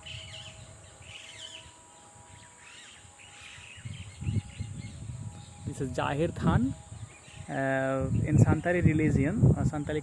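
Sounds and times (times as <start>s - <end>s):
birds chirping and calling: 0.0s - 10.0s.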